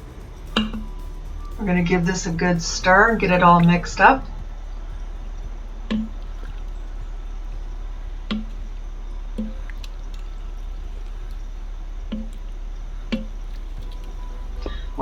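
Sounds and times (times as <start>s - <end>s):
liquid sloshing: 0.0s - 15.0s.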